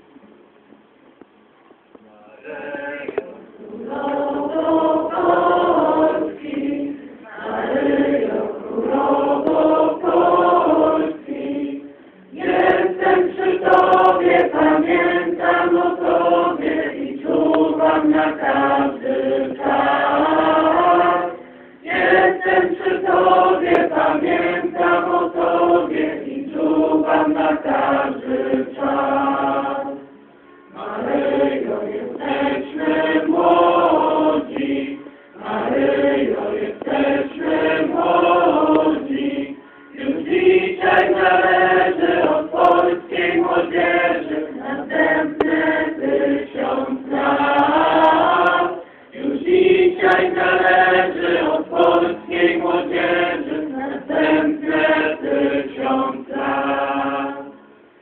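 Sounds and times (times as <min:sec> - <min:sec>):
group singing a hymn: 0:02.4 - 0:58.0.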